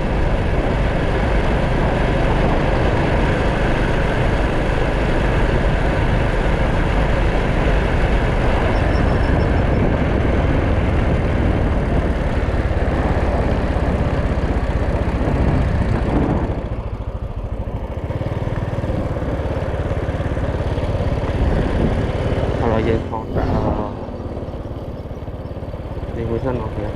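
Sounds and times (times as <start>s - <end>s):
motorcycle engine running: 0.0s - 26.9s
wind noise on microphone: 0.0s - 26.9s.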